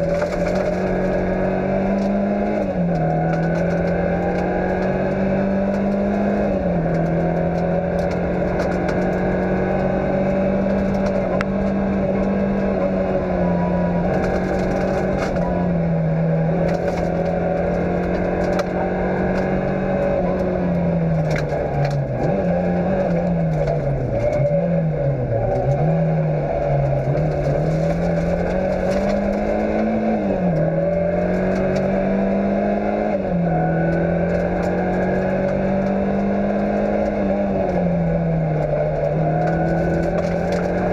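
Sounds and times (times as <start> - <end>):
stones clicking against car: 0.0 - 12.7, 14.0 - 15.6, 16.4 - 24.7, 26.6 - 32.2, 33.8 - 37.8, 38.4 - 40.9
car engine revving: 0.0 - 40.9.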